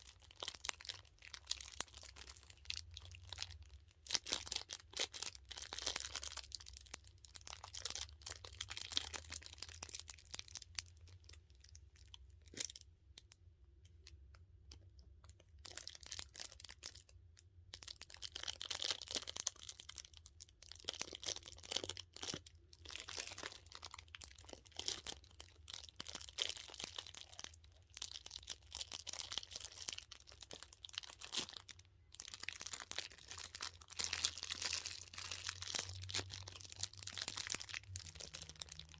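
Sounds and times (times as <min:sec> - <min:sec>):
squishy toy and plastic crinkling: 0:00.0 - 0:38.9.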